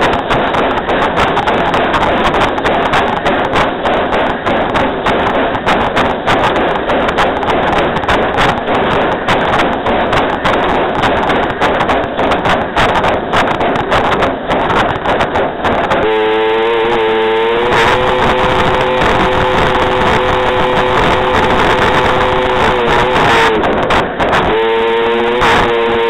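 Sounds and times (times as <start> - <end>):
train wheels clattering on rails: 0.0 - 26.0.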